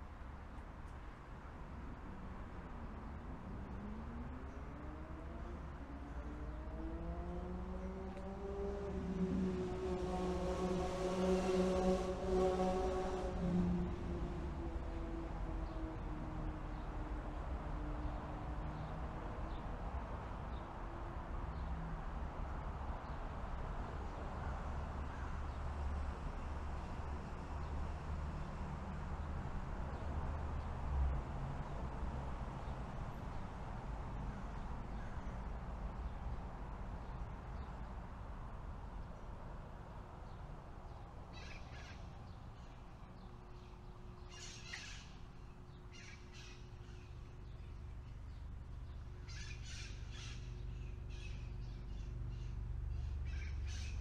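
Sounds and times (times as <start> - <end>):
city traffic rumble: 0.0 - 54.0.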